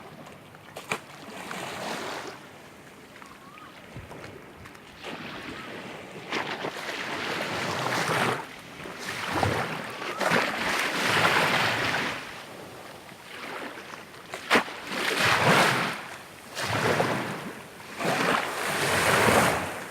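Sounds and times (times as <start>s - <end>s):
sea waves breaking on shore: 0.0s - 19.9s.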